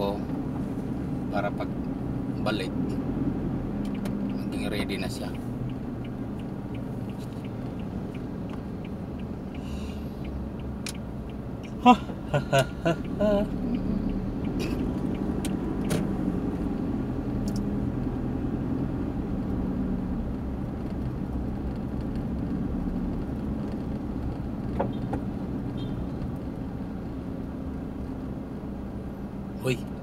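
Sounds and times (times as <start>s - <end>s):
engine and road rumble: 0.0s - 30.0s.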